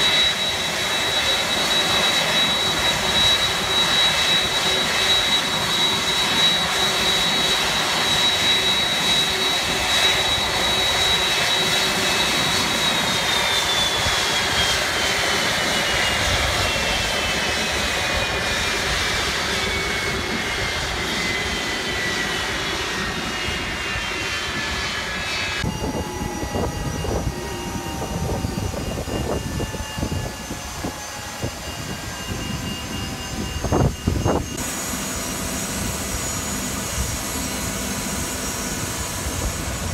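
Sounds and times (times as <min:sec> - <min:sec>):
jet engines spooling down: 0:00.0 - 0:39.9.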